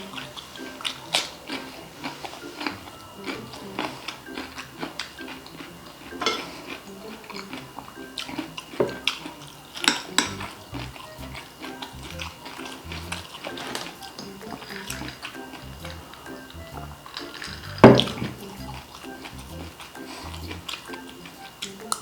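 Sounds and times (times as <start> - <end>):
crunching and chewing food: 0.0 - 22.0.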